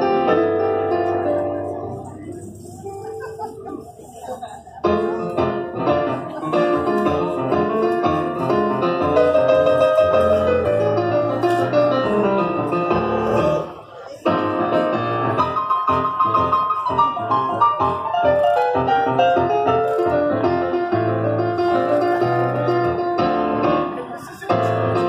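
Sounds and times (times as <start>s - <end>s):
solo piano music: 0.0s - 2.2s, 4.8s - 25.0s.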